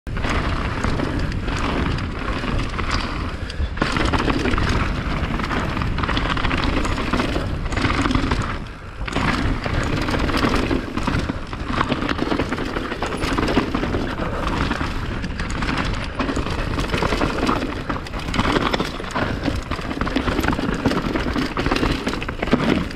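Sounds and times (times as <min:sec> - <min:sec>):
bike knocking and rattling: 0:00.1 - 0:22.9
bike tyres crunching over dirt: 0:00.1 - 0:22.9
wind rumble on microphone: 0:00.1 - 0:22.9.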